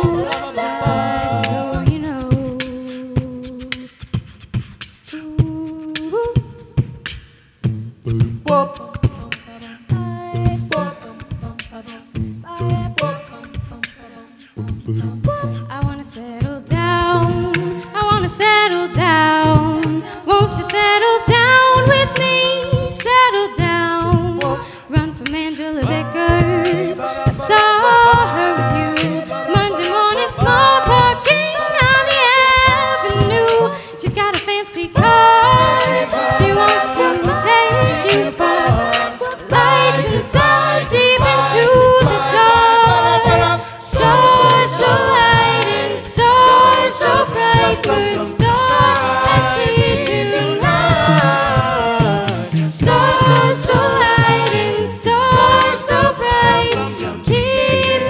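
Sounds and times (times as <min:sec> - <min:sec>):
a cappella group singing in harmony: 0:00.0 - 0:58.0
beatboxed vocal percussion: 0:00.0 - 0:58.0.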